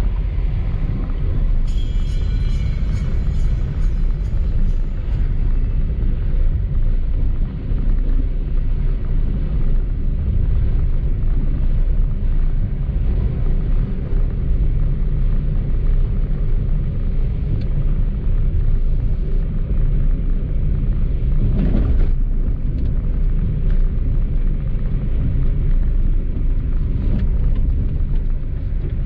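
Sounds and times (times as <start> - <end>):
car driving along road: 0.0 - 29.0.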